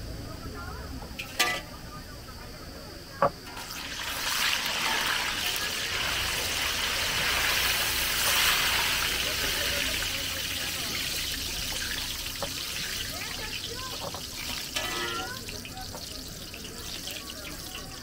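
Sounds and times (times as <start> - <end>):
hot oil sizzling: 3.4 - 18.0.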